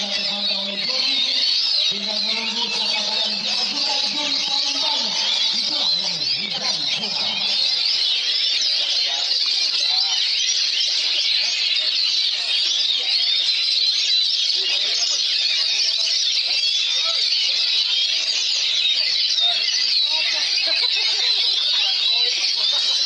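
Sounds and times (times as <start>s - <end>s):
songbirds chirping and trilling: 0.0s - 23.0s.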